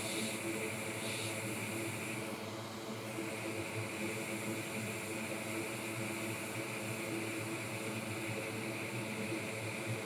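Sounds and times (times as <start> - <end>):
fume extractor fans whirring: 0.0 - 10.0.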